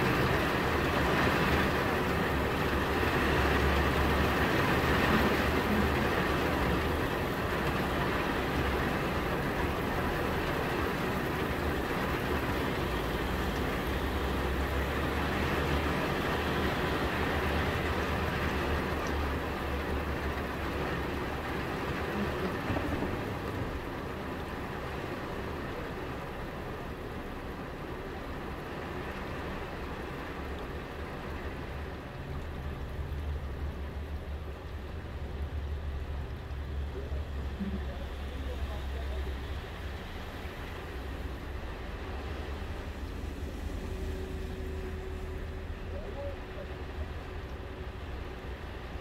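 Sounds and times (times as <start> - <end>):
heavy rain on a car: 0.0 - 49.0.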